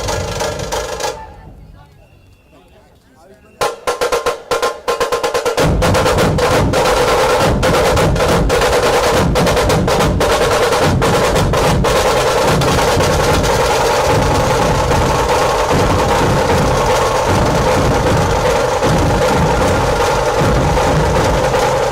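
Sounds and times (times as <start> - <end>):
loud fast drumming with music: 3.6 - 21.9.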